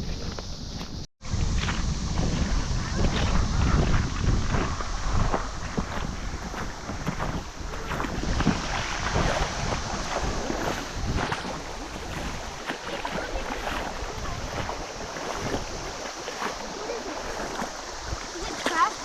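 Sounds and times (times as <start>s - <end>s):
wind rumbling on microphone: 0.0s - 19.0s
river water splashing: 1.3s - 19.0s.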